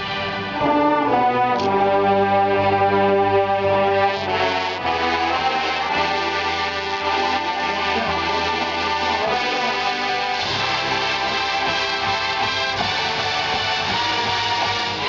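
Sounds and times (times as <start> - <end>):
brass band fanfare: 0.0 - 15.0.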